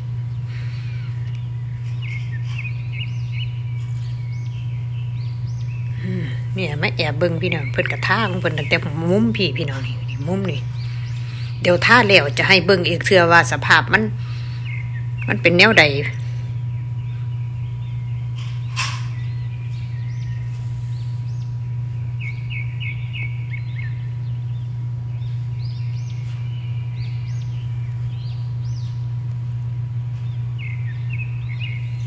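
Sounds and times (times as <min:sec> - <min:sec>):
small birds chirping: 0:00.0 - 0:32.0
steady low hum: 0:00.0 - 0:32.0.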